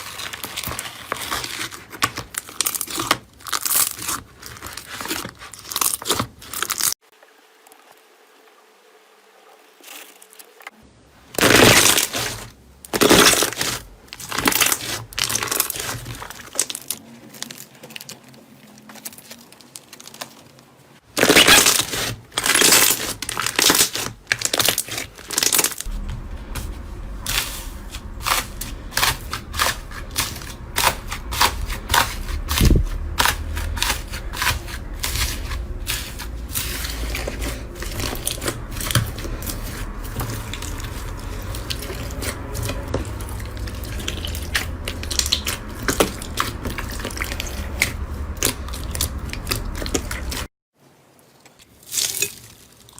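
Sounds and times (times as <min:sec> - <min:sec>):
slime crackling squishes: 0:00.0 - 0:07.0, 0:11.4 - 0:50.5.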